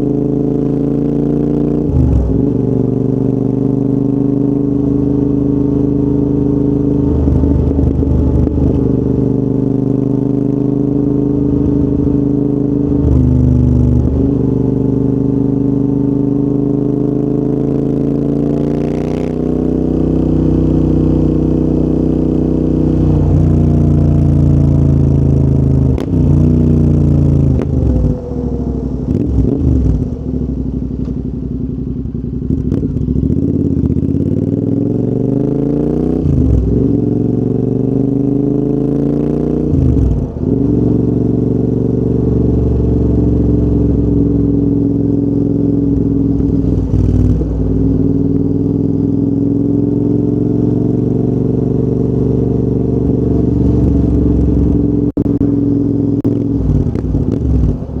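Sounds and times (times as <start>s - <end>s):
motorcycle engine riding: 0.0s - 58.0s.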